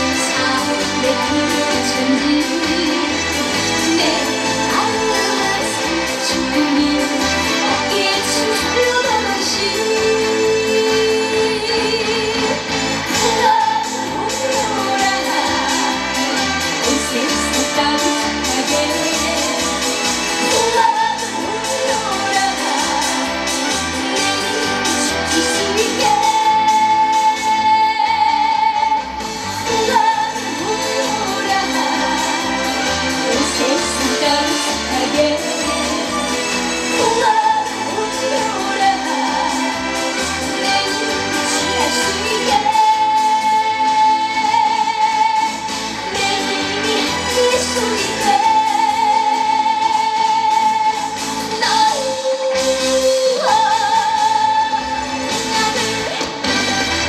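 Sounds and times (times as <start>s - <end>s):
young woman singing into a microphone: 0.0s - 16.2s, 16.8s - 19.8s, 20.4s - 23.4s, 24.0s - 29.1s, 29.7s - 32.6s, 33.3s - 36.3s, 37.0s - 39.8s, 40.6s - 56.2s
loud amplified backing music: 0.0s - 57.0s.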